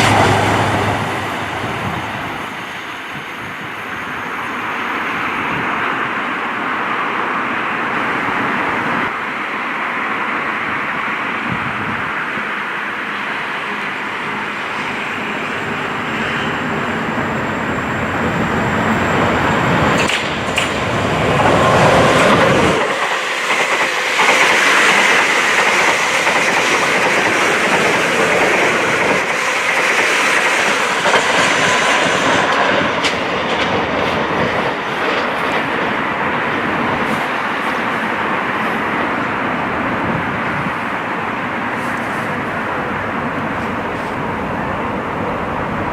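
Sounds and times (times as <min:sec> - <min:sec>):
train passing: 0:00.0 - 0:45.9.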